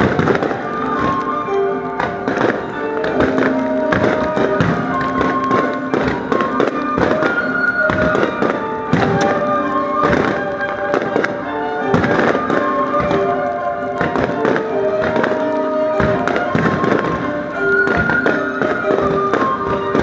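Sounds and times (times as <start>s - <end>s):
fireworks bursting: 0.0s - 20.0s
music with long held notes: 0.0s - 20.0s.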